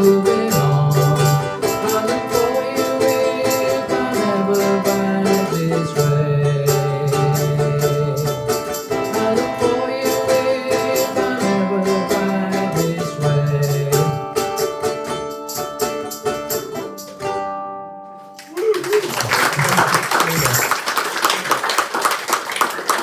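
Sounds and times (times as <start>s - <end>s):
ukuleles strumming: 0.0s - 18.9s.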